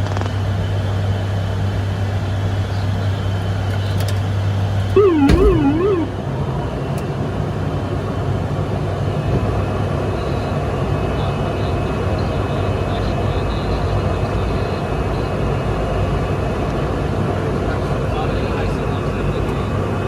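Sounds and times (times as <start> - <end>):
turboprop engines droning: 0.1 - 20.0.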